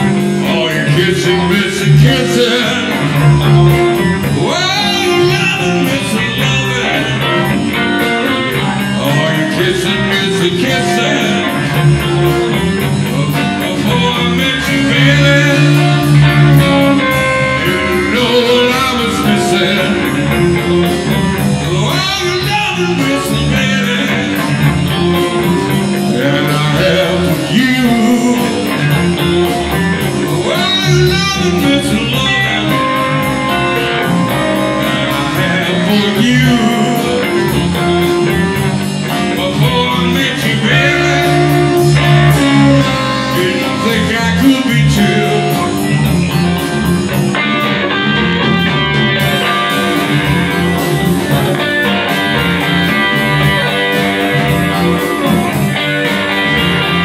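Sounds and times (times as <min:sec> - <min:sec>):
man singing: 0:00.0 - 0:46.4, 0:48.4 - 0:57.0
blues band playing: 0:00.0 - 0:57.0.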